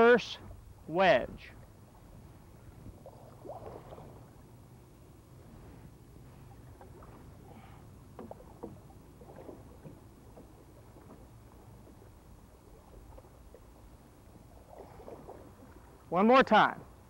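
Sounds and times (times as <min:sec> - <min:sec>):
low steady rumble: 0:00.0 - 0:17.0
paddle splashing in water: 0:01.6 - 0:04.5, 0:05.4 - 0:16.1.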